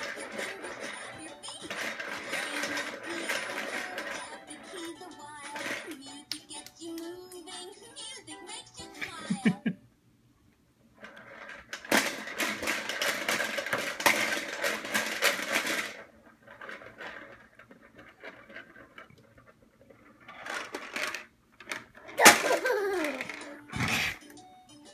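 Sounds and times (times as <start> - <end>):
toy balls clattering in dome: 0.0 - 8.2, 11.0 - 24.2.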